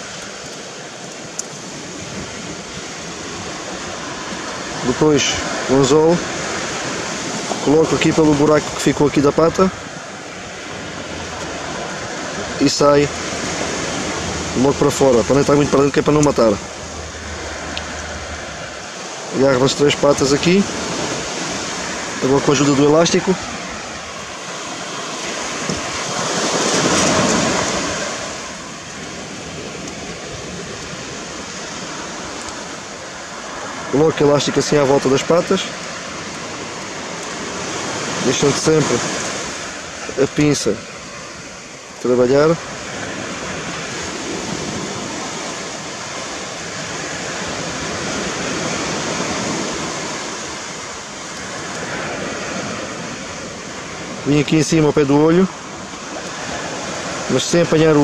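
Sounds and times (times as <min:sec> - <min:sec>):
sea surf washing on beach: 0:00.0 - 0:58.0.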